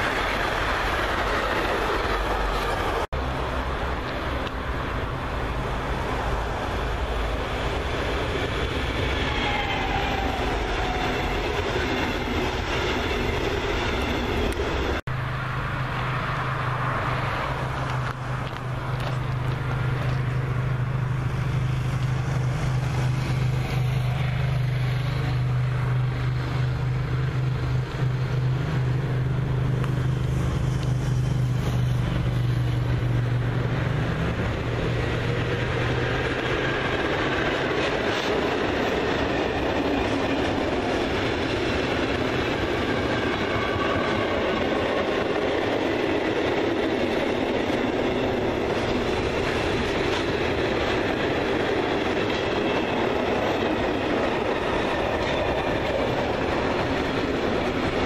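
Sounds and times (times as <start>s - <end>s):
electric locomotive humming: 0.0s - 58.0s
train wheels rolling on rails: 0.0s - 58.0s.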